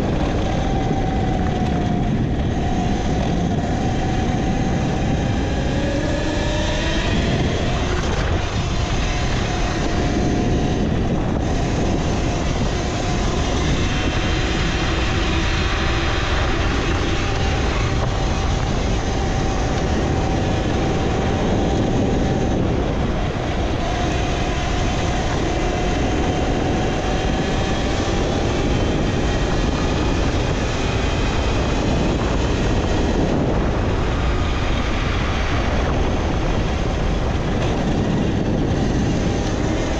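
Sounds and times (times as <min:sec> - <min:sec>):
electric motor whine: 0:00.0 - 0:39.9
road noise: 0:00.0 - 0:39.9
wind rush on microphone: 0:00.0 - 0:39.9.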